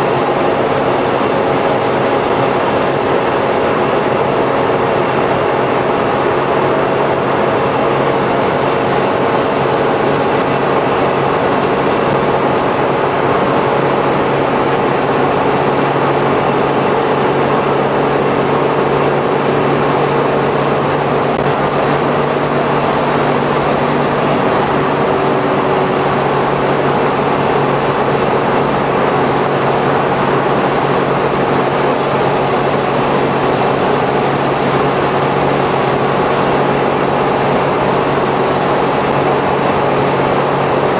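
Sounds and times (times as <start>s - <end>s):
van engine drone: 0.0s - 40.9s.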